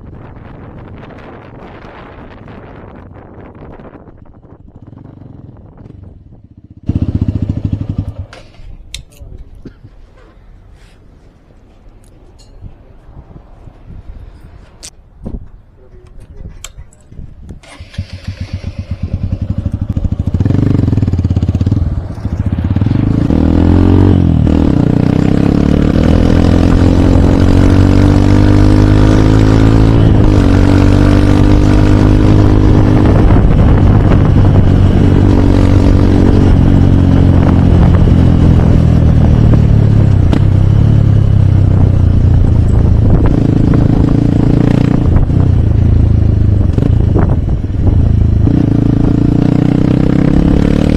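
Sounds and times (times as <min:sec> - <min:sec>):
motorcycle engine revving: 0:00.4 - 0:08.8, 0:17.6 - 0:50.9.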